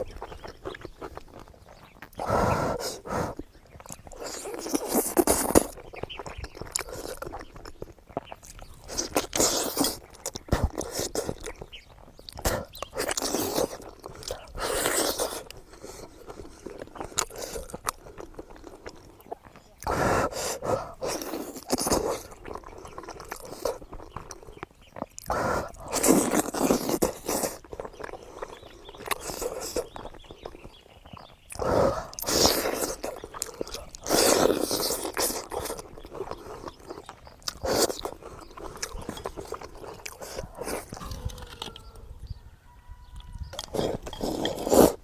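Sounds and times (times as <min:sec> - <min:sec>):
person biting and chewing: 0:00.0 - 0:30.7, 0:31.5 - 0:42.0, 0:43.2 - 0:45.0.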